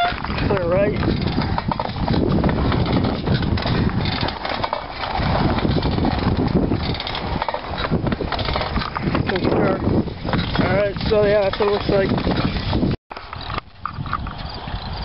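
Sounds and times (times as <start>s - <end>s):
steel wheels rumbling on rail: 0.0s - 15.0s
wind on microphone: 0.0s - 15.0s.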